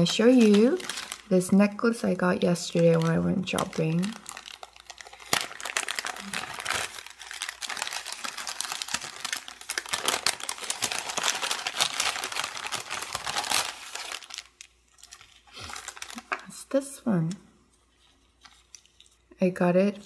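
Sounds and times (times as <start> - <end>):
tissue paper crinkling: 0.0 - 1.6, 2.6 - 16.5, 17.9 - 19.3.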